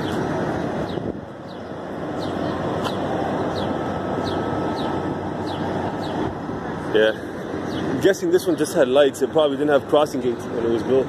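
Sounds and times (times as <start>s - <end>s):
city traffic hum: 0.0s - 11.0s.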